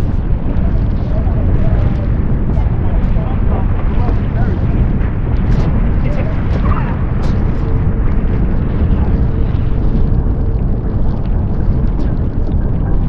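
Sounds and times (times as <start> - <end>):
faint steady hum: 0.0 - 13.0
wind buffeting microphone: 0.0 - 13.0.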